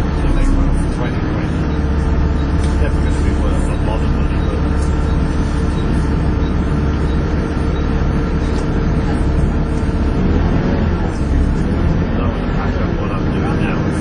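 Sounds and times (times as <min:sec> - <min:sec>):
bus diesel engine whining: 0:00.0 - 0:14.0.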